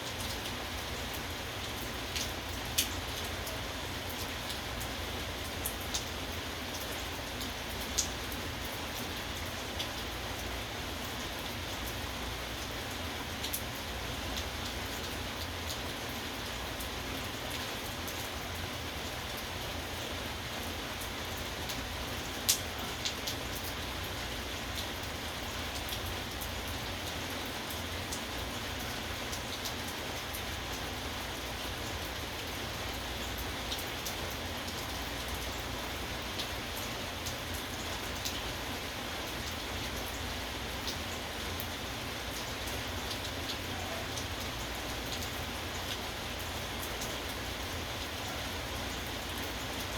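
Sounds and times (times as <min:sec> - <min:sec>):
rain pattering on a surface: 0:00.0 - 0:49.9.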